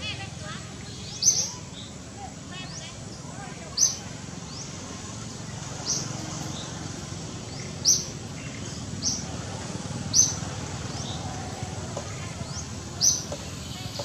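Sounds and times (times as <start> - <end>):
low background noise: 0.0 - 14.0
small bird chirping: 0.6 - 2.0, 2.6 - 9.4, 10.1 - 14.0.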